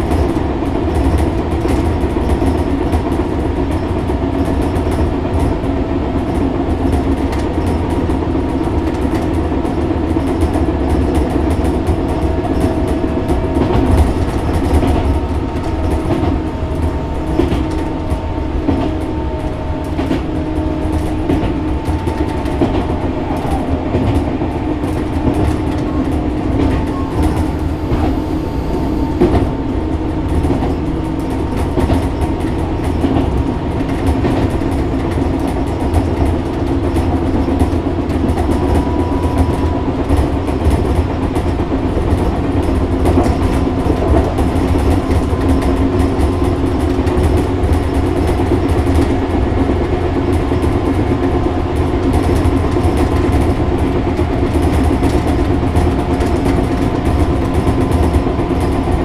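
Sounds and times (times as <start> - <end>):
electric train motor hum: 0.0 - 59.0
wheels clicking over rail joints: 0.0 - 59.0.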